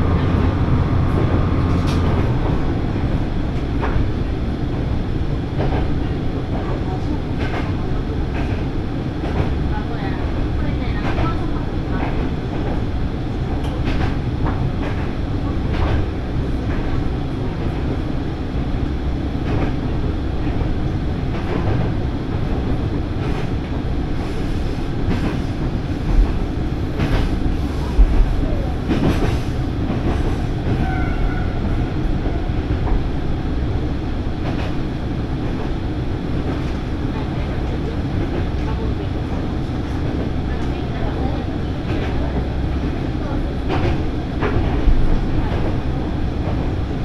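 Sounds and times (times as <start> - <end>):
railcar engine and wheels rumbling: 0.0 - 47.0.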